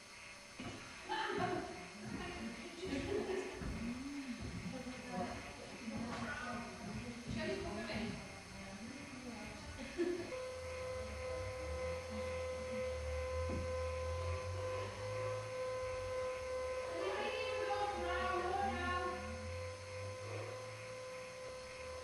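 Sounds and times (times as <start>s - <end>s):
electrical mains hum: 0.0s - 22.0s
high-pitched whine: 0.0s - 22.0s.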